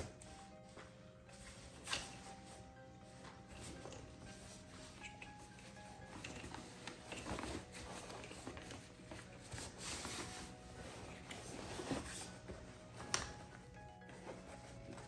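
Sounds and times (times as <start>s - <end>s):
fabric and plastic rustling: 0.0s - 15.0s.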